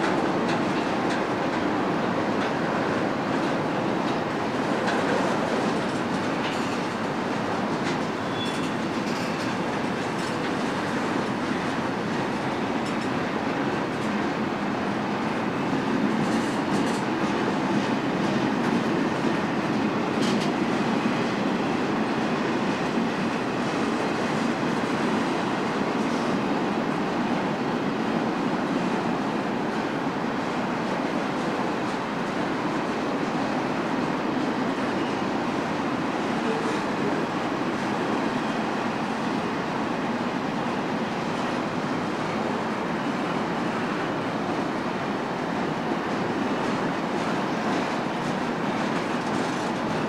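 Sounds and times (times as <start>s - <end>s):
freight train cars rolling past: 0.0s - 50.0s.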